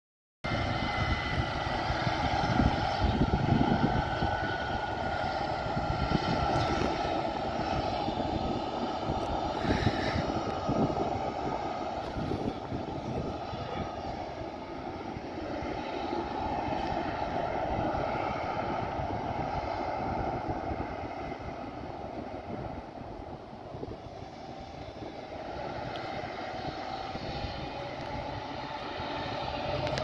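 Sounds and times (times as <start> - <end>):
jet engines rumbling: 0.5 - 30.0.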